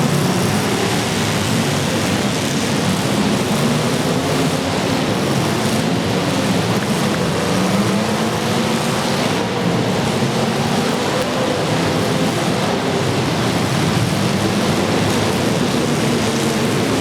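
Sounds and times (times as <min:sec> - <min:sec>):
many car engines running: 0:00.0 - 0:17.0.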